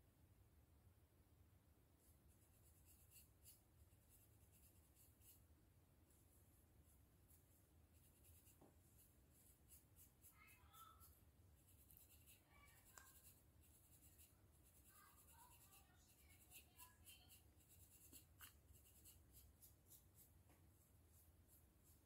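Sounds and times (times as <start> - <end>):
scratching on scalp: 2.0 - 5.4, 6.1 - 22.0.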